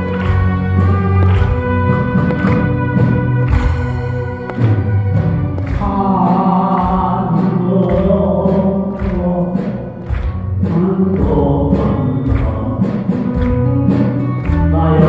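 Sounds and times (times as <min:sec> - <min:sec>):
band accompaniment: 0:00.0 - 0:15.0.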